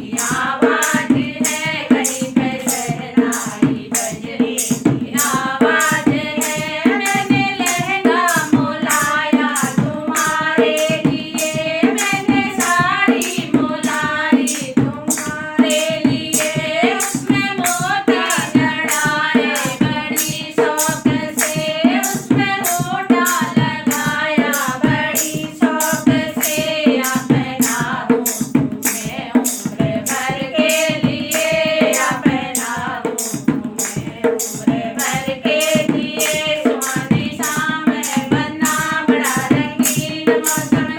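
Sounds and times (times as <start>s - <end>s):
drum beating steady rhythm: 0.0s - 40.9s.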